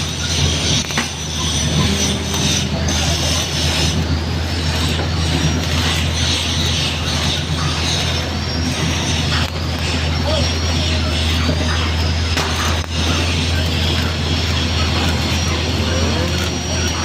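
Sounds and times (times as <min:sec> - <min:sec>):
low hum: 0:00.0 - 0:17.0
welding arc crackling: 0:00.0 - 0:17.0.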